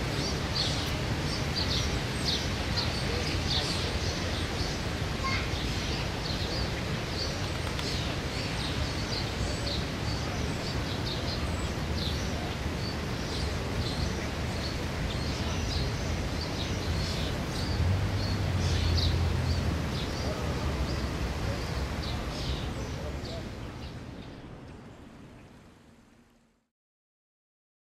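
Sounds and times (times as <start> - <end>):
small birds chirping: 0.0 - 26.4.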